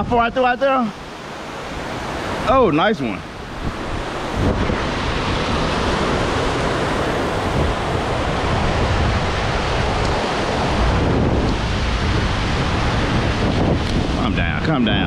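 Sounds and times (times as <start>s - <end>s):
water rushing: 0.0s - 15.0s
wind buffeting microphone: 0.0s - 15.0s.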